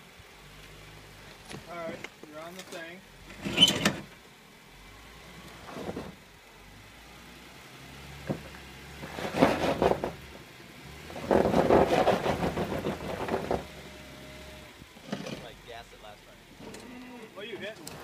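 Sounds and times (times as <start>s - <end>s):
car engine revving: 3.0s - 18.0s.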